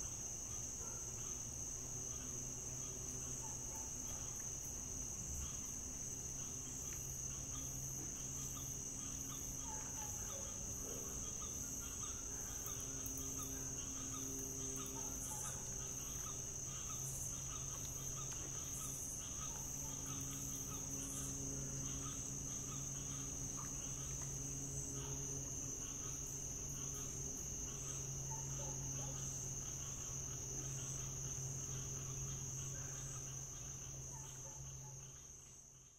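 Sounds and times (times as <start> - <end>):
night insects chirping: 0.0 - 35.9.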